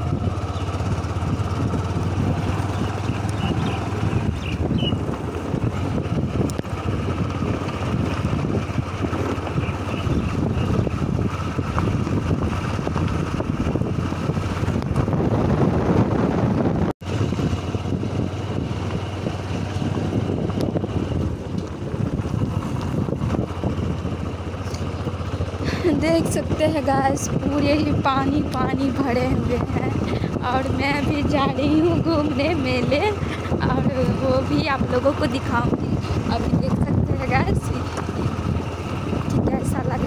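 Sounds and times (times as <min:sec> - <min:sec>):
vehicle engine running: 0:00.0 - 0:40.0
wind rushing over microphone: 0:00.0 - 0:40.0.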